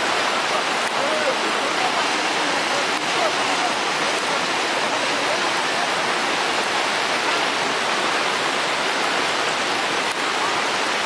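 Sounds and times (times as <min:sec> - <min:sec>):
rushing flood water: 0:00.0 - 0:11.0.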